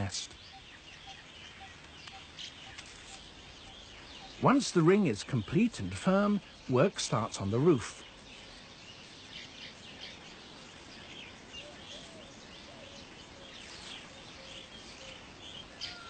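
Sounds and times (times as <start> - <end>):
birds chirping: 0.0 - 16.0
steady background hiss: 0.0 - 16.0.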